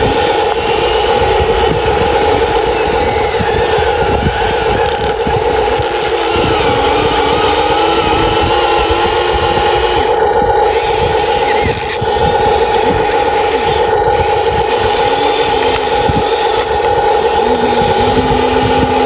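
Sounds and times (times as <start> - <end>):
remote-control excavator whine: 0.0 - 19.0.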